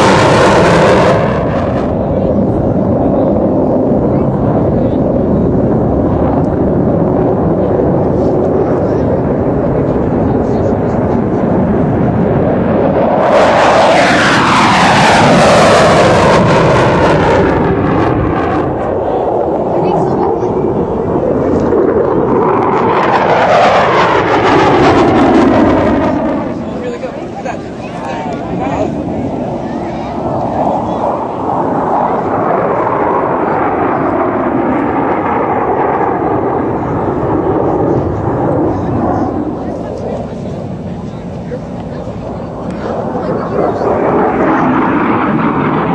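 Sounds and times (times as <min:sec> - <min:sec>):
airplane flying low past: 0:00.0 - 0:45.9.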